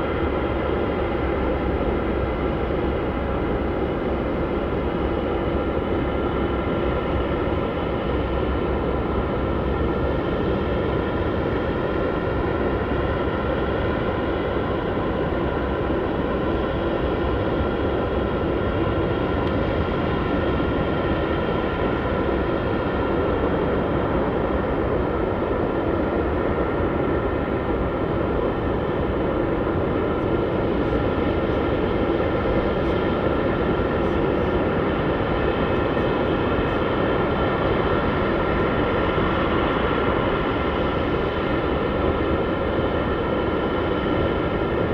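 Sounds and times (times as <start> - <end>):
jet engines rumbling and whining: 0.0 - 44.9.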